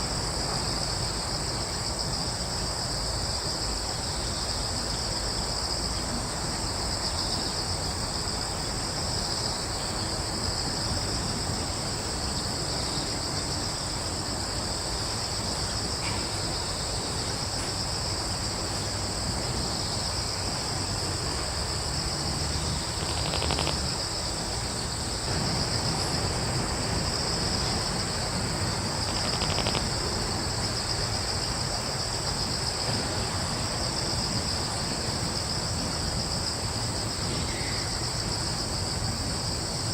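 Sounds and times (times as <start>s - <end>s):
crickets chirping: 0.0s - 39.9s
low rumble of breeze: 0.0s - 39.9s.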